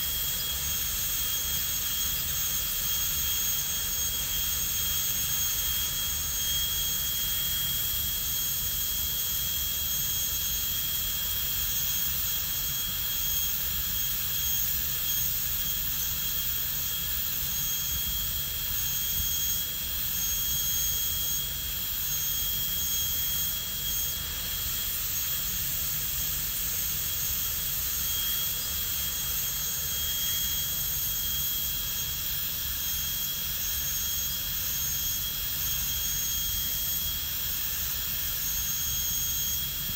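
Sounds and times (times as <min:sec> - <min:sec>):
dental drill whining: 0:00.0 - 0:39.9.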